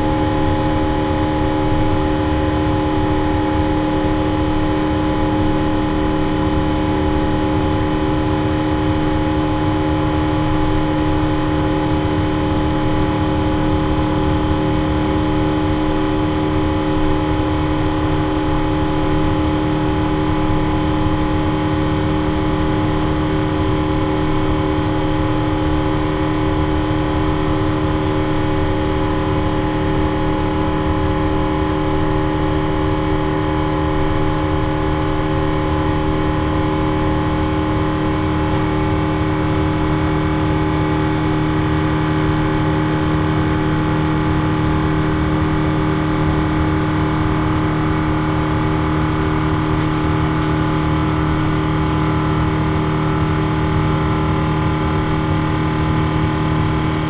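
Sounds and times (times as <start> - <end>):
jet engine cabin drone with whine: 0.0 - 57.0.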